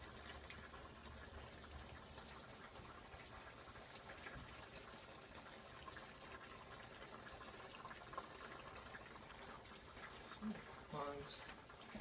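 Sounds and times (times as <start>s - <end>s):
curry bubbling in a pot: 0.0s - 12.0s.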